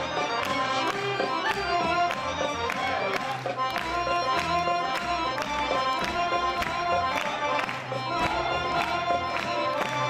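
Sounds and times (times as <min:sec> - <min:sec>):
live folk dance music: 0:00.0 - 0:10.0.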